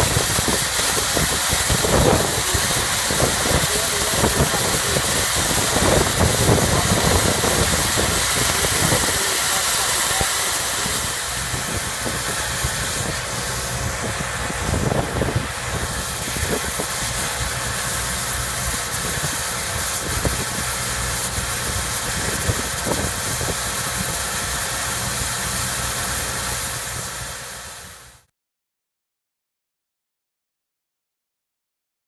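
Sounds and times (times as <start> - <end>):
cutting torch hissing: 0.0 - 28.3.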